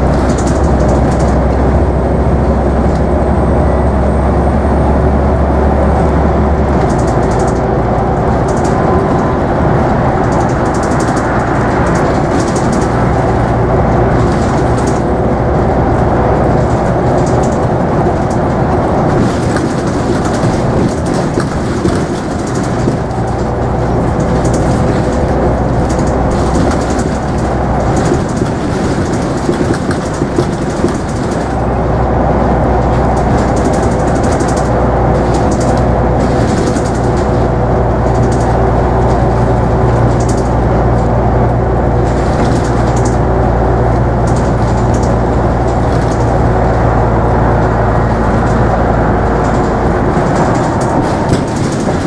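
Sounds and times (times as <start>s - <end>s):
interior rattles: 0.0s - 1.8s, 6.0s - 52.0s
bus diesel engine drone: 0.0s - 52.0s
constant whine: 0.0s - 52.0s
road noise: 0.0s - 52.0s.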